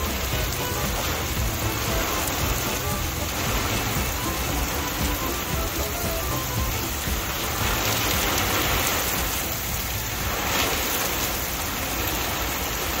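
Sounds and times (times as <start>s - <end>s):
heavy rain on concrete: 0.0s - 13.0s.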